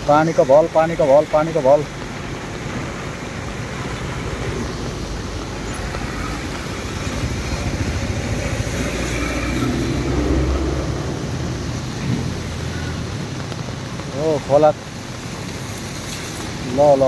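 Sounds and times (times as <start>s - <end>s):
rain: 0.0s - 17.0s
river rushing in flood: 0.0s - 17.0s.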